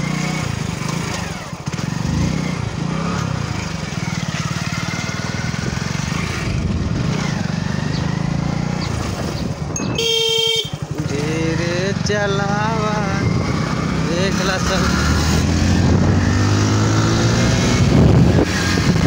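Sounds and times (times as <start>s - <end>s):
vehicle engine puttering: 0.0s - 19.0s.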